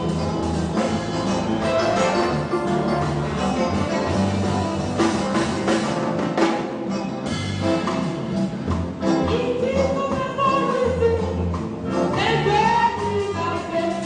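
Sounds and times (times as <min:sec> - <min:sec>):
drum kit beat: 0:00.0 - 0:14.0.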